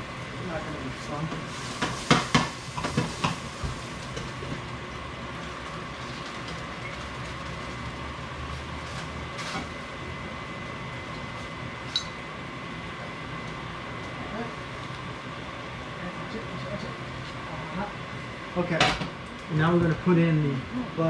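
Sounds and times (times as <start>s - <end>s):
kitchen fan humming: 0.0s - 21.0s.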